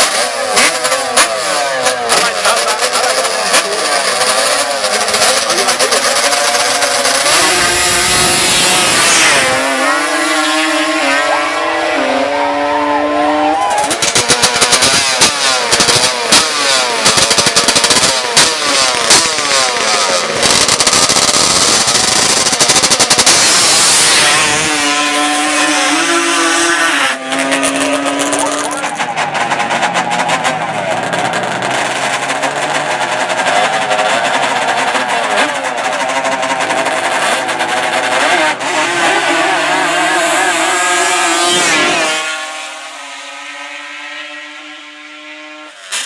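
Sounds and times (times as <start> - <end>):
racing atv engines revving: 0.0 - 46.0.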